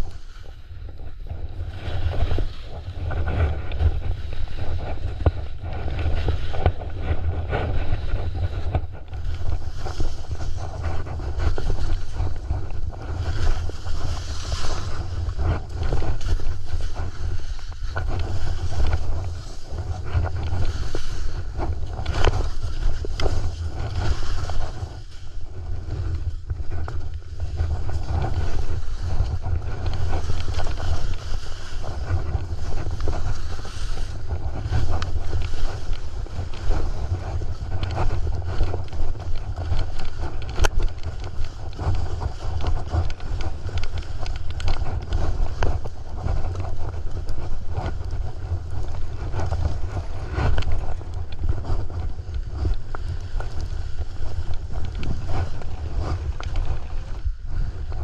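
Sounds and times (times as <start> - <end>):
skis scraping on snow: 0.0 - 58.0
wind buffeting microphone: 0.0 - 58.0.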